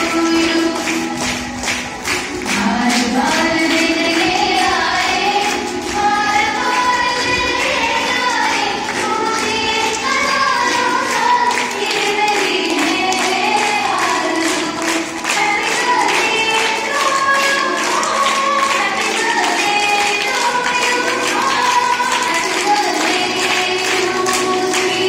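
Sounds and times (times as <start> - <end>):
children singing in chorus: 0.0 - 25.0
rhythmic hand clapping: 0.0 - 25.0.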